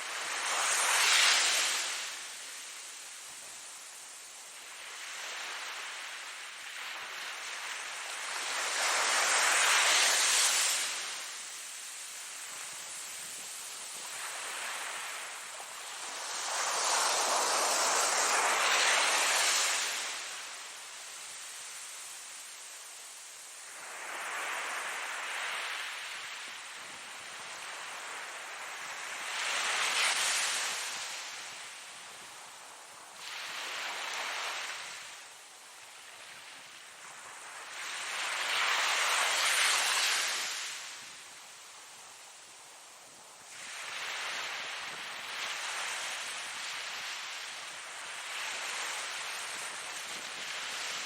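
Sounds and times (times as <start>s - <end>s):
ocean waves washing ashore: 0.0s - 51.0s.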